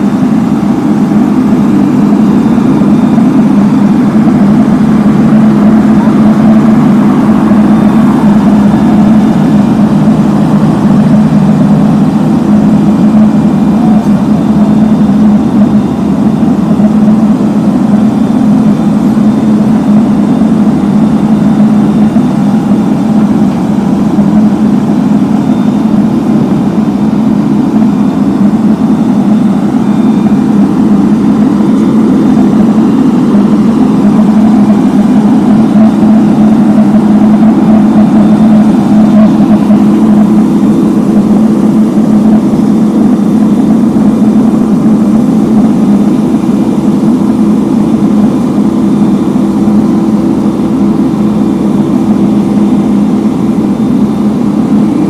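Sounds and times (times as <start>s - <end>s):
heavy machinery engines humming: 0.0s - 55.0s.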